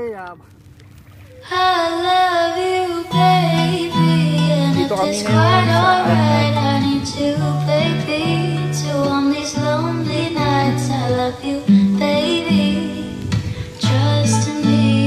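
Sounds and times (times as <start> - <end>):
song with singing over bass: 1.5 - 15.0.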